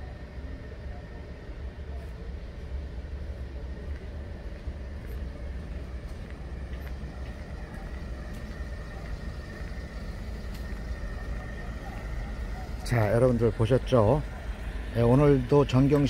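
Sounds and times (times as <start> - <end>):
faint hum: 0.0 - 16.0
street traffic rumble: 0.0 - 16.0.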